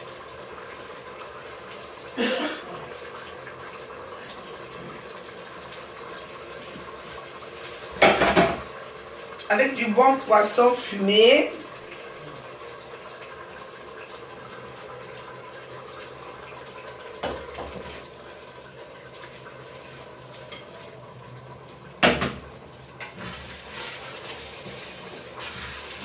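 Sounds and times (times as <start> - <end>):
pot hissing on the heat: 0.0 - 26.0.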